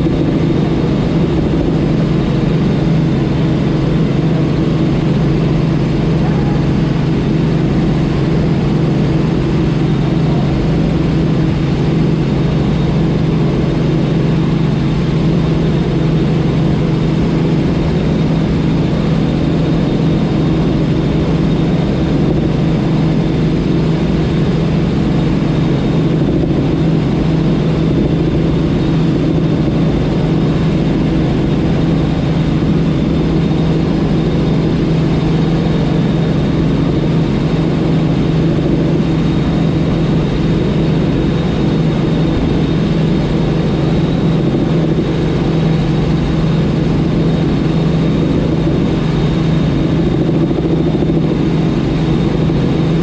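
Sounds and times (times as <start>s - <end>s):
helicopter cockpit drone: 0.0s - 53.0s.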